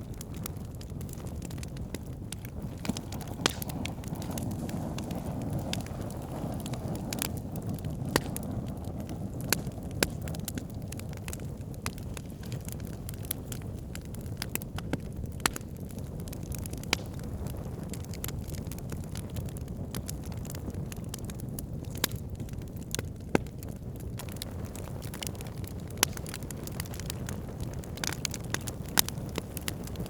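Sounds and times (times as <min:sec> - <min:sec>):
campfire burning: 0:00.0 - 0:30.0
fire pops and crackles: 0:00.0 - 0:30.0.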